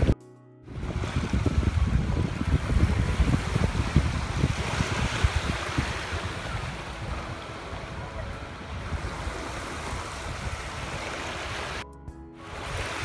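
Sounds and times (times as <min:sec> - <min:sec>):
wind buffeting microphone: 0:00.0 - 0:11.8
small waves lapping on sand: 0:00.8 - 0:11.8, 0:12.4 - 0:13.0.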